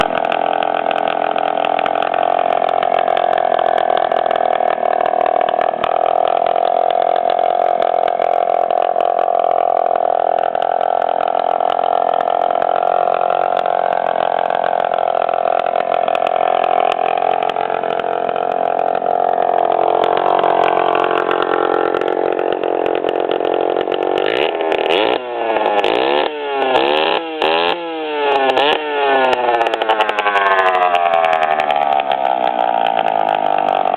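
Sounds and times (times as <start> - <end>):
unmuffled two-stroke engine buzz: 0.0 - 33.9.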